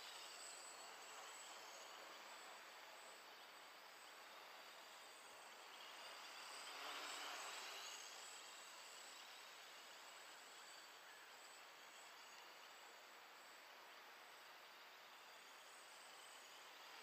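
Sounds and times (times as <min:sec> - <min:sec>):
distant drone motors whirring: 0:00.0 - 0:17.0.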